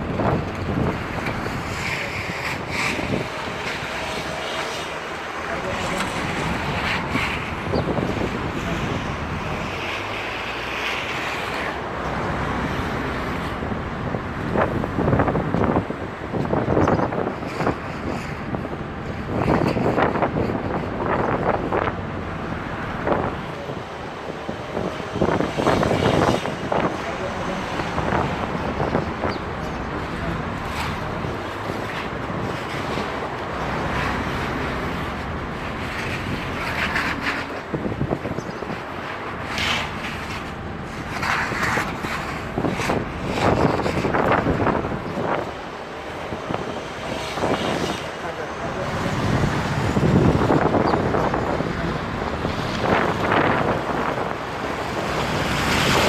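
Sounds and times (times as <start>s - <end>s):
traffic rumble: 0.0s - 56.0s
wind buffeting microphone: 0.0s - 56.0s.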